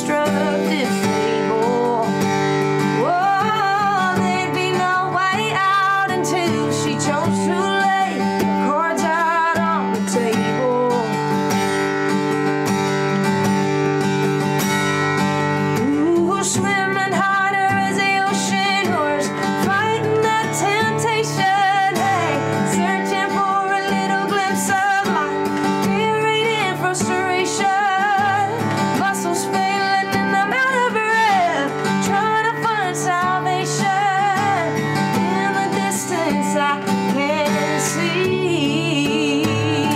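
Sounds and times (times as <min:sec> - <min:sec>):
woman singing: 0:00.0 - 0:12.1, 0:15.4 - 0:39.9
acoustic guitar: 0:00.0 - 0:39.9.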